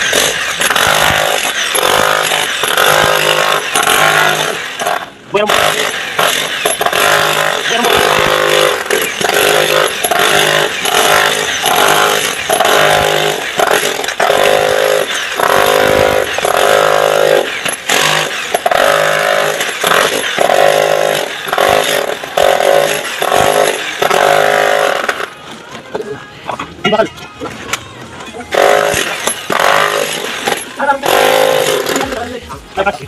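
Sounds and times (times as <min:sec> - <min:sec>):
chipping hammer breaking concrete: 0:00.0 - 0:25.3, 0:28.5 - 0:32.2.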